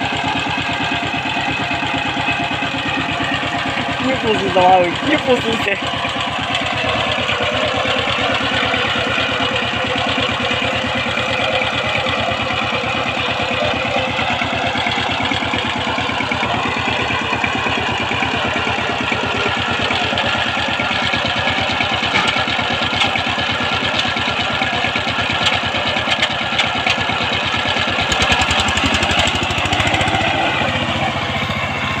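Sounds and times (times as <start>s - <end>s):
tiller engine chugging: 0.0s - 32.0s.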